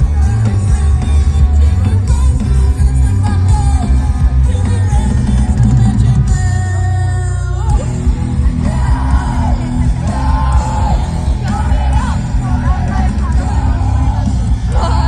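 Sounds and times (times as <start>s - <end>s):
live rock band playing: 0.0s - 15.0s
singer singing and yelling: 0.0s - 15.0s.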